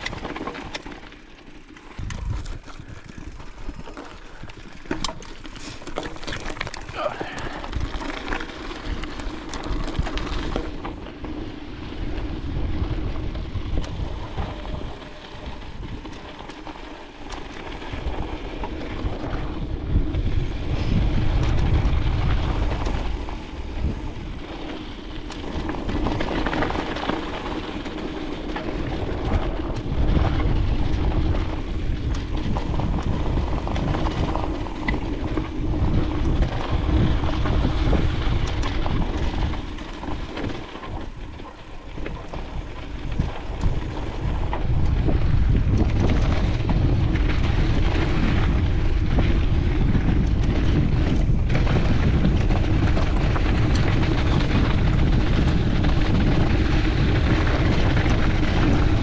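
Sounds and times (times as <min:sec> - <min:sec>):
bike rattles and clicks: 0:00.0 - 0:59.0
tyre hum: 0:00.0 - 0:59.0
wind buffeting microphone: 0:01.8 - 0:59.0.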